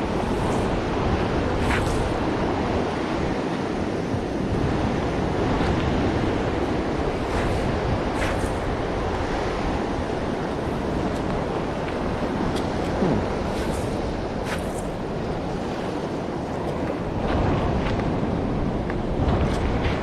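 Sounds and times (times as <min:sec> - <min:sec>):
ocean surf on beach: 0:00.0 - 0:20.0
wind buffeting microphone: 0:00.0 - 0:20.0.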